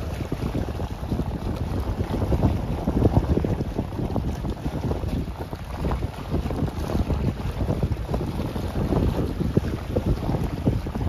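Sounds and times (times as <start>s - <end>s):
sea washing: 0.0s - 11.0s
wind buffeting the microphone: 0.0s - 11.0s.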